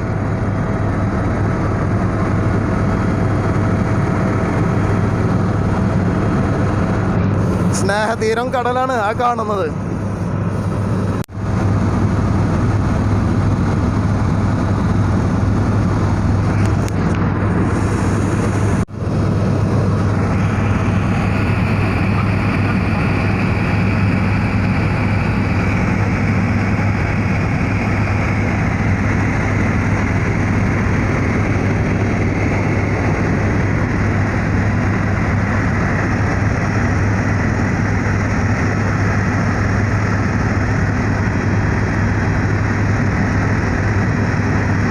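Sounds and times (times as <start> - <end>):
helicopter engine and rotor noise: 0.0 - 44.9.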